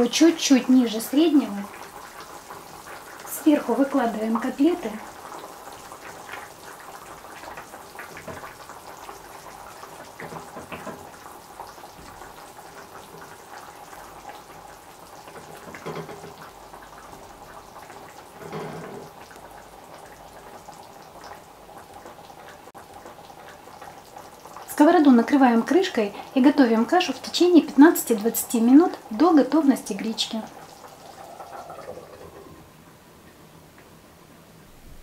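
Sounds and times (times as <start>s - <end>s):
buckwheat simmering in a frying pan: 0.0s - 34.6s.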